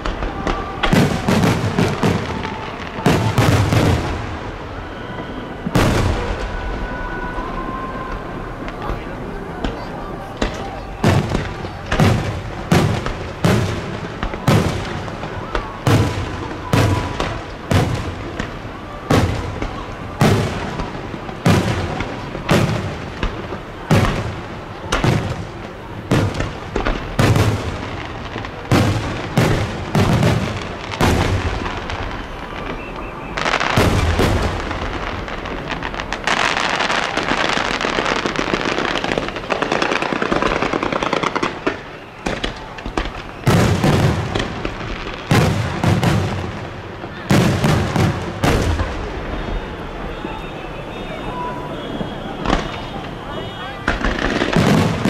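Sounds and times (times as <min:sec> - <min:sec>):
firework shells booming: 0:00.0 - 0:04.6, 0:05.2 - 0:07.1, 0:08.1 - 0:55.0
firework crackling: 0:00.0 - 0:55.0.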